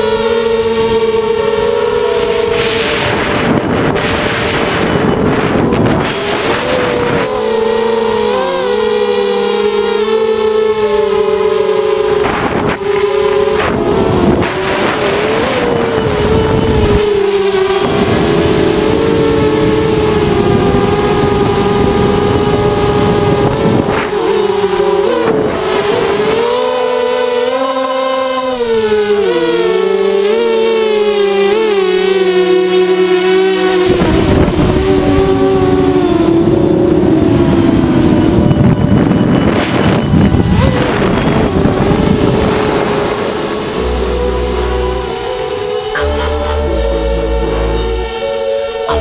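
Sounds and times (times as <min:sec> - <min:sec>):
quadcopter motors whining: 0:00.0 - 0:49.0
wind noise on microphone: 0:00.0 - 0:49.0.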